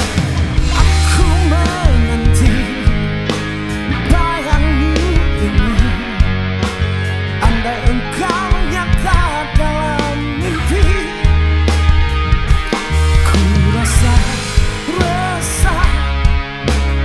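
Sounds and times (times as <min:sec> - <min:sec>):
bass: 0:00.0 - 0:17.0
drums: 0:00.0 - 0:17.0
electric guitar: 0:00.0 - 0:17.0
sliding lead melody: 0:00.0 - 0:17.0.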